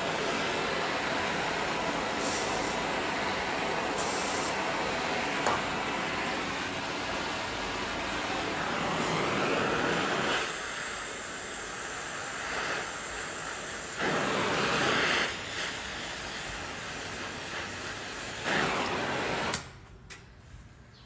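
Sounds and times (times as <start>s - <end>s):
torch flame hissing: 0.0s - 19.8s.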